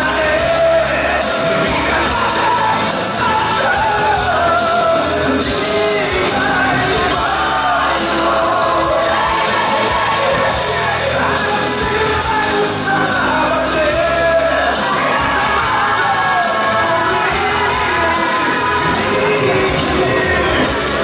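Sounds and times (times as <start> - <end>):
live rock band playing: 0.0 - 21.0
man singing: 0.0 - 21.0.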